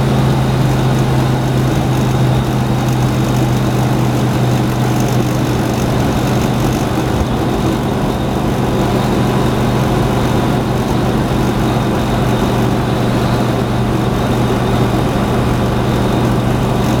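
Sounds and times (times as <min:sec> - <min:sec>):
engine deep droning: 0:00.0 - 0:17.0.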